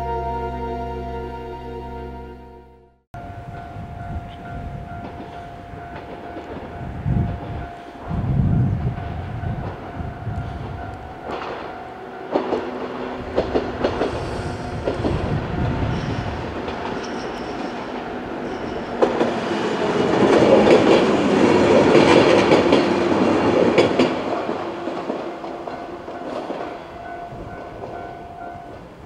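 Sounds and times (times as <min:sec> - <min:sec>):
level crossing warning bell: 0:03.2 - 0:29.0
train wheels clacking: 0:04.3 - 0:28.9.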